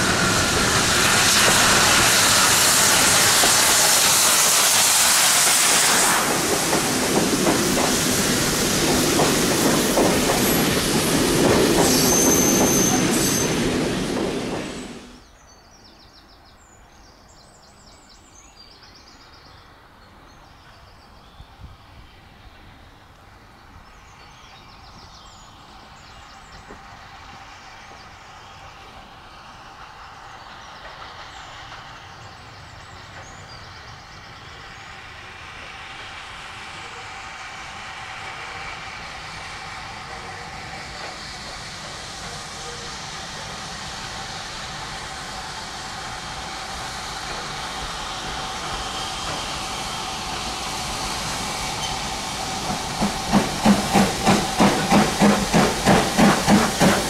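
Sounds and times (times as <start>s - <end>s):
steam train approaching: 0.0s - 57.0s.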